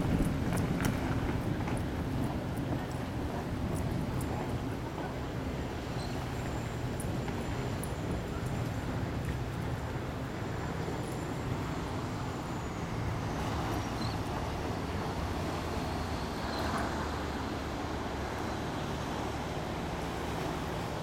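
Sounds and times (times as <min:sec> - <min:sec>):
low engine rumble: 0:00.0 - 0:21.0
outdoor noise: 0:00.0 - 0:21.0.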